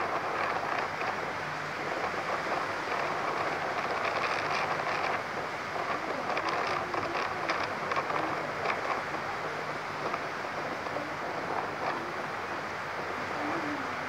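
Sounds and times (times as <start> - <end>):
rustling leaves: 0.0 - 14.0
storm wind through trees: 0.0 - 14.0.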